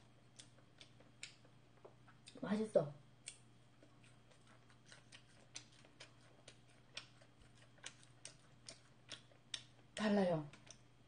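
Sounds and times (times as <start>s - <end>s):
faint crunchy chewing: 0.0s - 2.4s, 3.1s - 11.0s.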